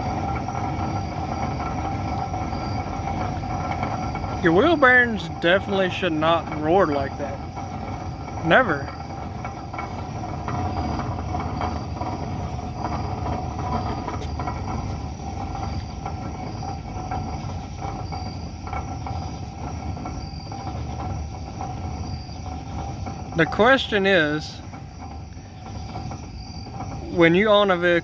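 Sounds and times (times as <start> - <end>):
wheel bearings roaring: 0.0 - 28.0.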